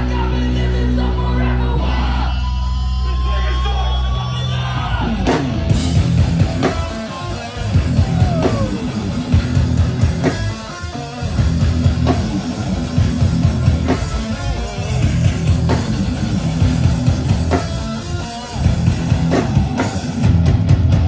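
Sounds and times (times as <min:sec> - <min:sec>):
hardcore punk band playing: 0:00.0 - 0:21.0.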